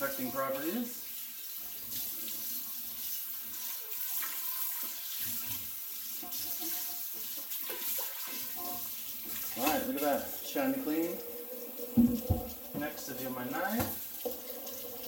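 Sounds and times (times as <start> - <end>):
faucet water splashing into metal pot: 0.0 - 15.0.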